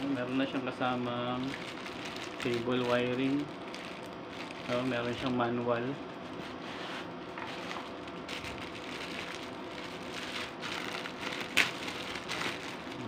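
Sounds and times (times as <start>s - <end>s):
plastic bag crinkling: 0.0s - 5.6s, 7.4s - 13.0s.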